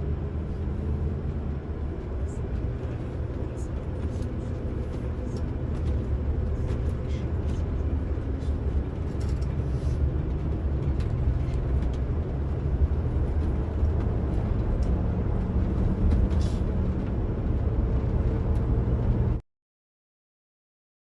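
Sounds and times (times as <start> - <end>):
bus engine and road rumble: 0.0 - 19.4.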